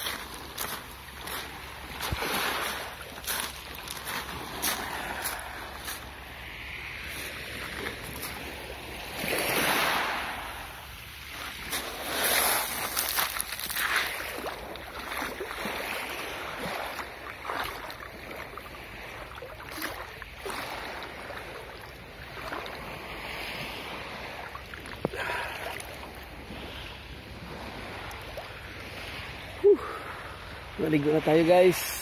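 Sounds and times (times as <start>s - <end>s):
water sloshing and lapping: 0.0s - 32.0s
water splashes: 0.0s - 32.0s.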